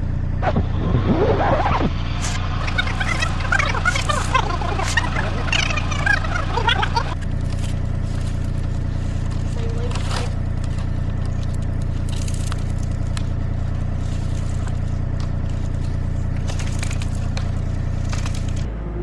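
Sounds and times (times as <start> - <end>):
digging machine engine humming: 0.0 - 19.0
soil scraping and crackling: 0.4 - 18.7.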